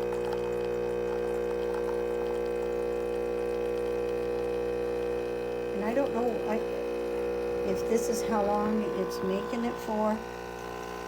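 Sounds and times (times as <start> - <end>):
espresso machine pump humming: 0.0 - 11.0.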